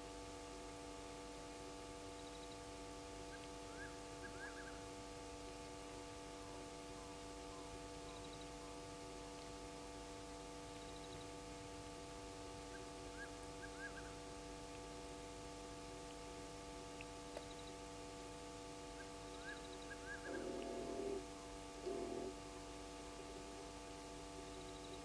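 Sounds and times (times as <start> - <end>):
layered night drone: 0.0 - 25.0.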